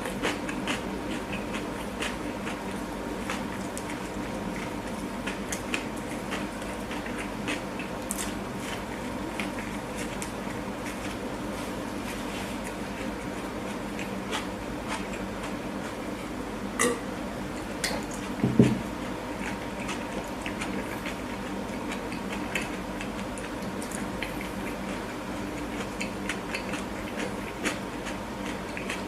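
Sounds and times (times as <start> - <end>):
wet chewing mouth sounds: 0.0 - 16.4, 17.6 - 29.0
faint hum: 0.0 - 29.0.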